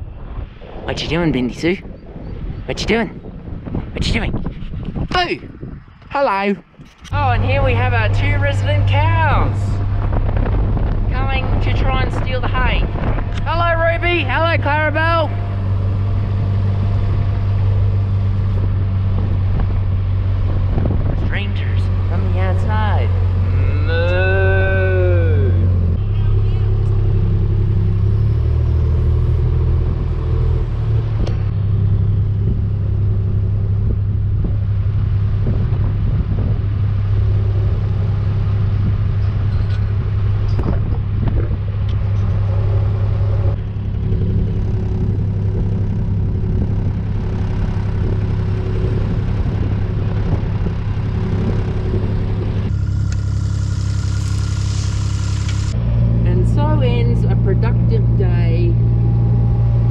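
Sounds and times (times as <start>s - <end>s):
farm vehicle engine rumble: 0.0s - 59.9s.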